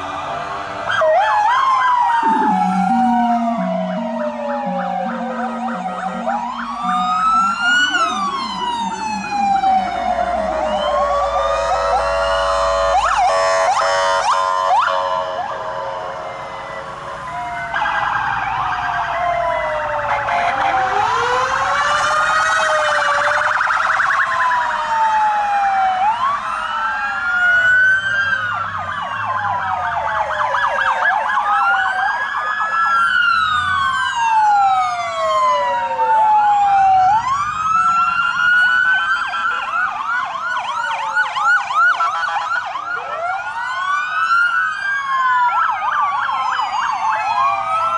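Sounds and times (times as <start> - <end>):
police sirens wailing and yelping: 0.0 - 47.9.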